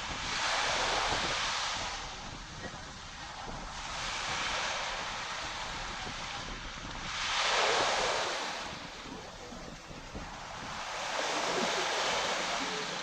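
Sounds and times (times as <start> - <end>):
waves washing onto sandy beach: 0.0 - 13.0.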